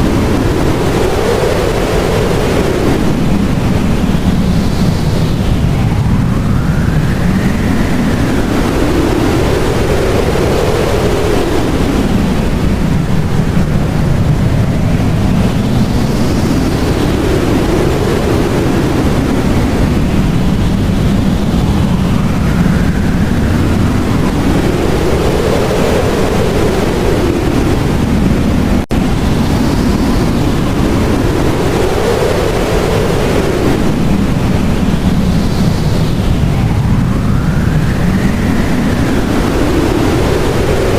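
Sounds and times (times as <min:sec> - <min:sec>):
blizzard wind whistling: 0:00.0 - 0:40.9.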